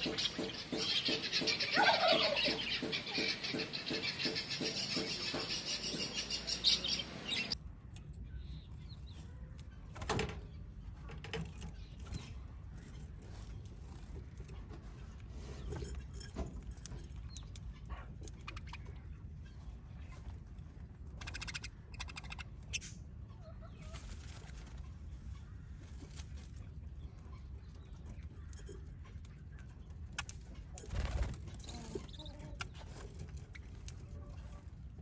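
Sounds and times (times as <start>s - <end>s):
birds calling: 0.0s - 35.0s
birds pecking at seed: 0.0s - 35.0s.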